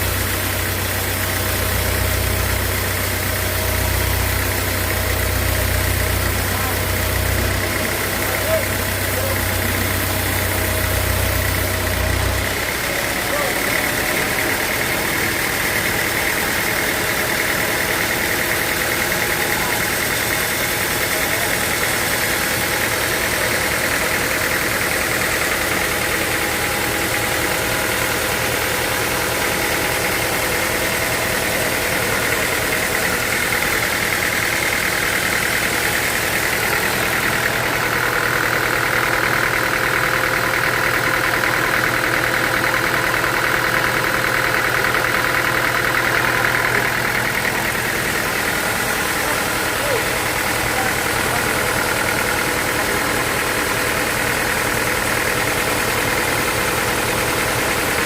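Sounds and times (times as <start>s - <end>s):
sawmill machinery whining: 0.0s - 58.0s.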